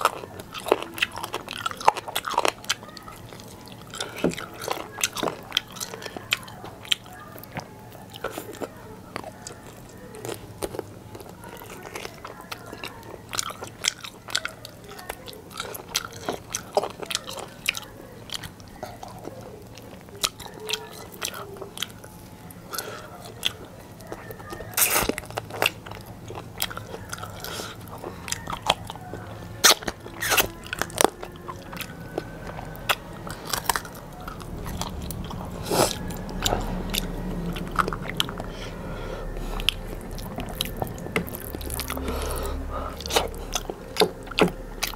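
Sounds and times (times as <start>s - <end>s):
wet mouth chewing and smacks: 0.0s - 44.9s.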